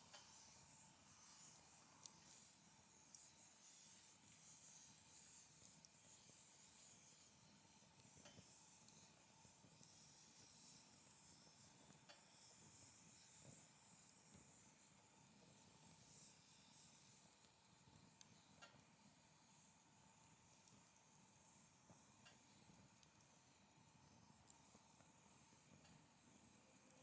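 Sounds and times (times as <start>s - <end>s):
wood fire hissing and crackling: 0.0s - 27.0s.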